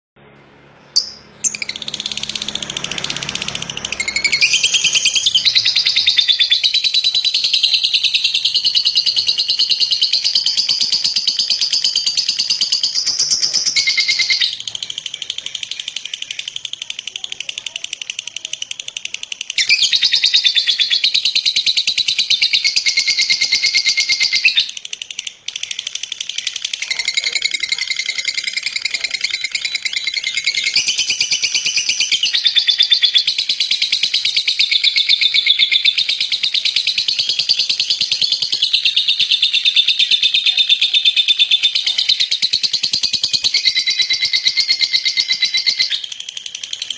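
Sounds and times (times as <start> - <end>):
lovebird rapid chattering song: 0.9 - 46.9.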